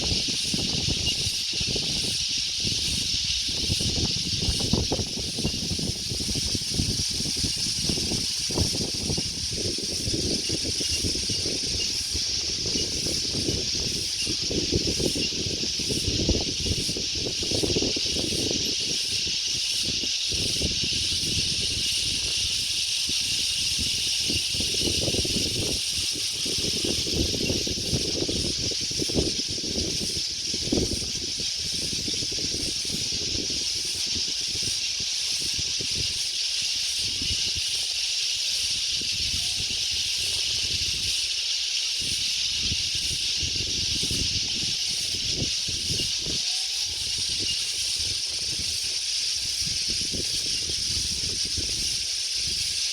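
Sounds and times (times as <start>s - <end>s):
wind gusting on microphone: 0.0s - 37.9s, 38.5s - 52.9s
steady high hiss: 0.0s - 52.9s.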